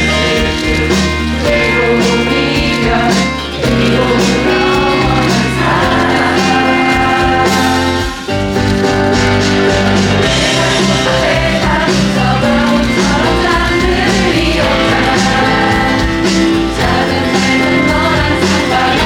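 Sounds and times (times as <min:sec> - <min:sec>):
audience singing in chorus: 0:00.0 - 0:19.0
recorded instrumental music: 0:00.0 - 0:19.0.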